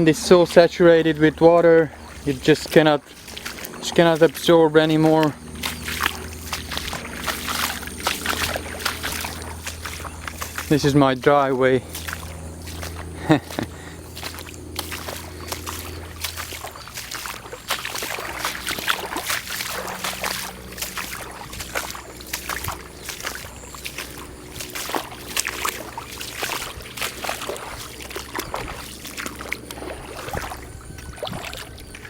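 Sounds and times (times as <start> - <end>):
footsteps splashing through water: 0.0 - 32.0.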